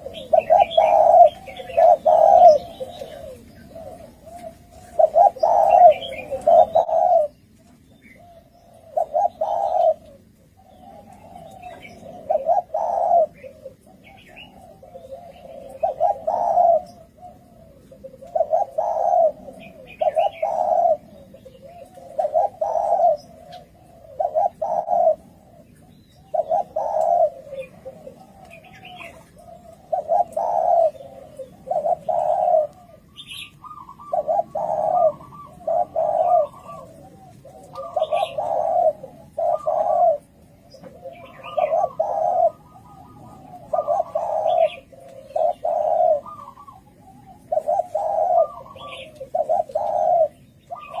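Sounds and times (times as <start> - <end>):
doves cooing: 0.0 - 51.0
small birds chirping: 0.0 - 51.0.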